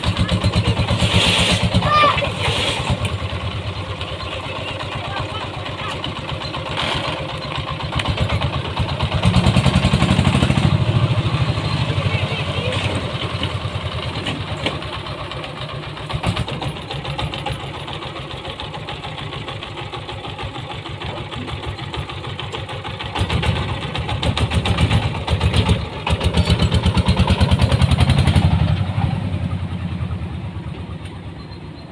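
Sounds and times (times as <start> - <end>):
diesel engine chugging: 0.0 - 31.9.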